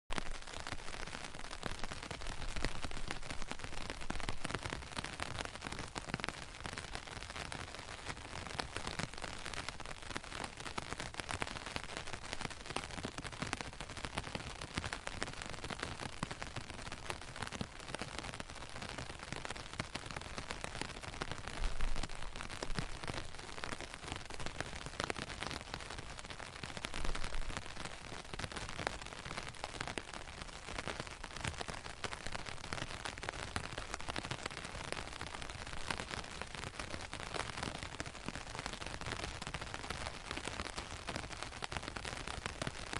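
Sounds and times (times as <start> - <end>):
rain pattering: 0.1 - 42.9.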